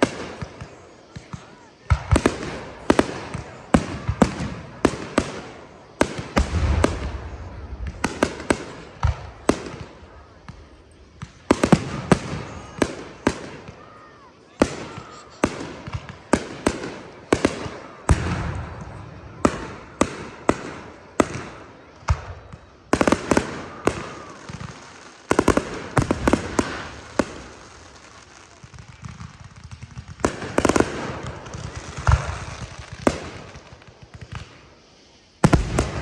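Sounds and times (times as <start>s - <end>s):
crackling firework reports: 0.0s - 36.0s
firework bangs echoing: 0.0s - 36.0s.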